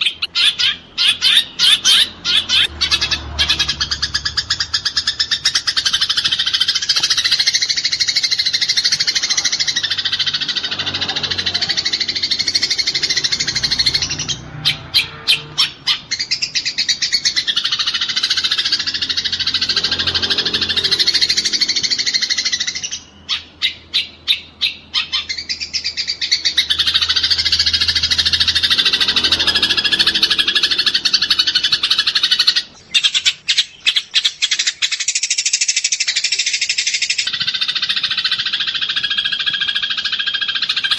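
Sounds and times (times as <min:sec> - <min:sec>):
sparrows harsh chatter: 0:00.0 - 0:40.9.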